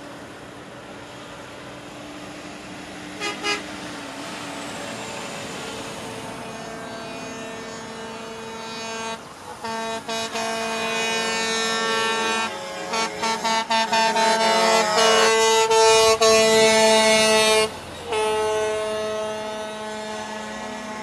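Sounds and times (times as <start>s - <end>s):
truck air horns: 3.2s - 3.9s, 4.8s - 21.0s.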